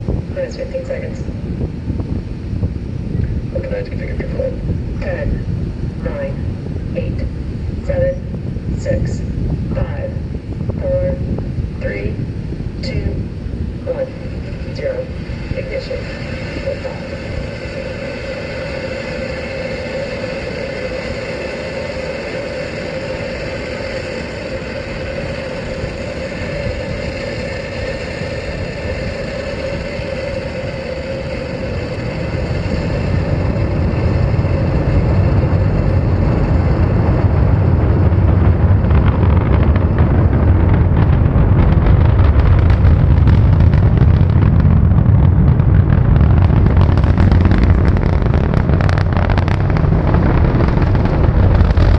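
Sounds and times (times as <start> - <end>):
deep rumble with crackle: 0.0 - 51.9
distant rocket engine hiss: 0.0 - 51.9.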